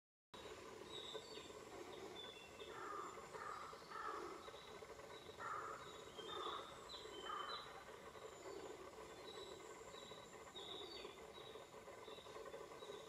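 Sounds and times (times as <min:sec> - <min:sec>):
rough low bird calls: 0:00.9 - 0:13.0.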